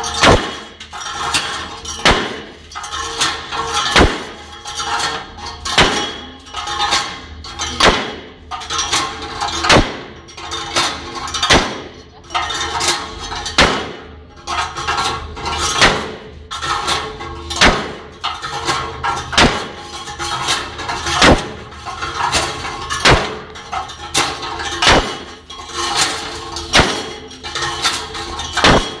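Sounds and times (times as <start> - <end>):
metallic clatter: 0.0 - 29.0.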